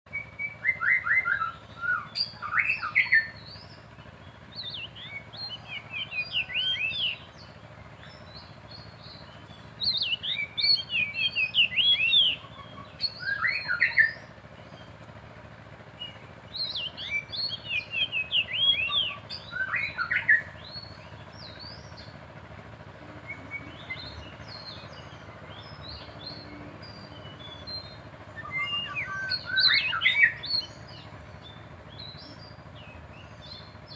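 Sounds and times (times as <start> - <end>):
birds singing whistled phrases: 0.1 - 22.2, 22.9 - 33.9.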